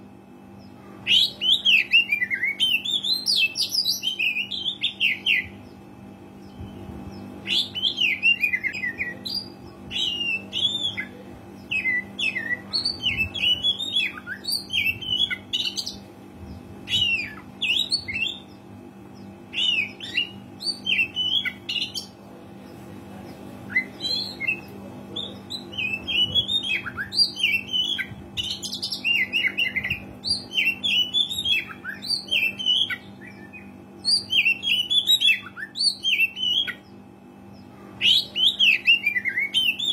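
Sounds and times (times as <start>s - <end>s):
steady low hum: 0.0s - 39.9s
songbird chirps and whistles: 1.1s - 5.8s, 6.4s - 16.0s, 16.9s - 18.6s, 19.2s - 22.1s, 23.7s - 37.0s, 37.6s - 39.9s.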